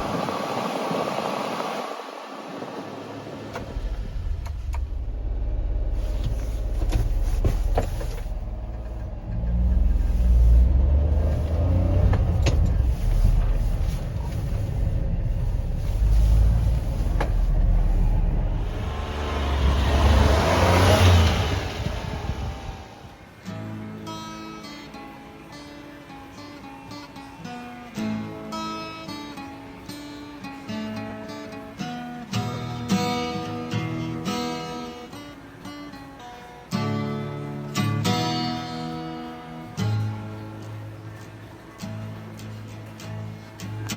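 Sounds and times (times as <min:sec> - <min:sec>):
small truck engine rumbling: 0:02.4 - 0:43.9.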